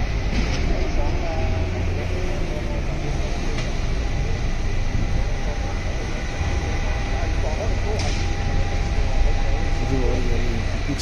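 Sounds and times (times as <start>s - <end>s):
faint distant voices: 0.0s - 11.0s
road traffic rumble: 0.0s - 11.0s.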